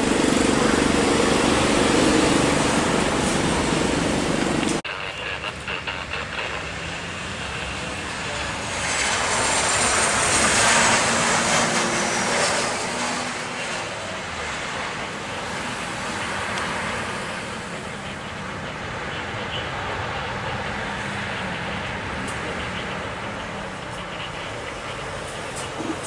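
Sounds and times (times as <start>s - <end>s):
jet airliner landing: 0.0s - 26.0s
jet engine high whine: 0.0s - 26.0s.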